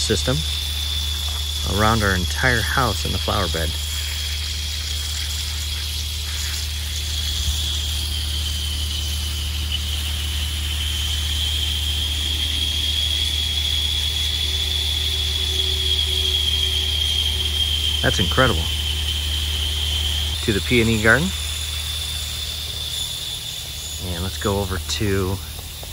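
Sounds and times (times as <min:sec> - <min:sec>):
compressed air whistling: 0:00.0 - 0:25.9.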